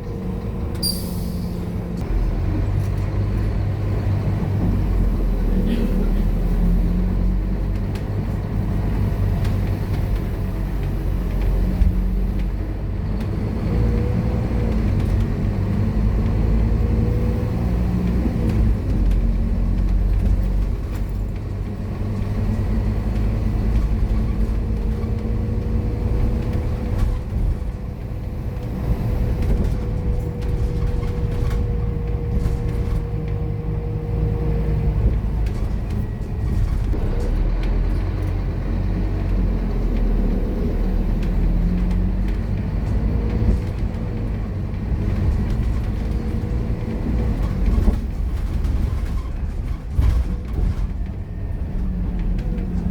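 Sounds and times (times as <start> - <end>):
bus diesel engine drone: 0.0 - 52.9
road noise: 0.0 - 52.9.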